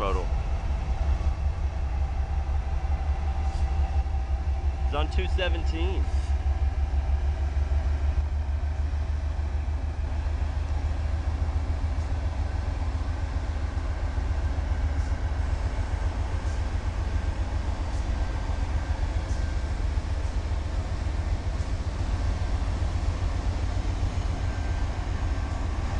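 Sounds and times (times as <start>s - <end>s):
freight train rolling past: 0.0s - 25.9s.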